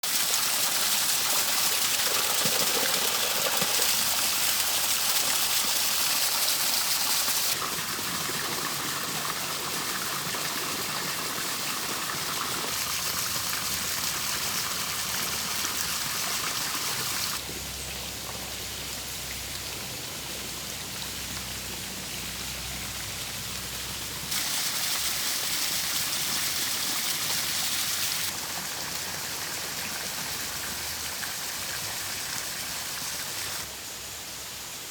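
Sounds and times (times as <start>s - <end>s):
water running and splashing: 0.0s - 33.7s.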